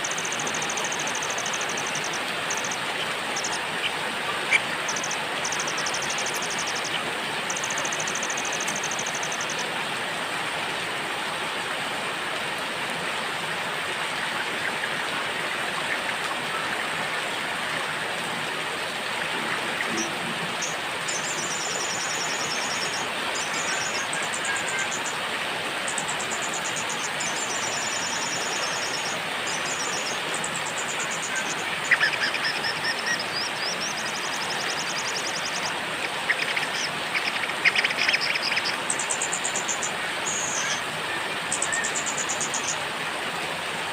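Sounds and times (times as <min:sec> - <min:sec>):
rain hiss: 0:00.0 - 0:43.9.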